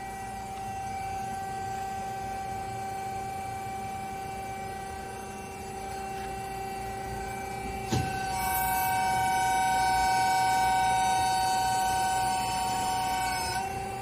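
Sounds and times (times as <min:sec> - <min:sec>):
high pump whine: 0:00.0 - 0:14.0
hydraulic pump humming: 0:00.0 - 0:14.0.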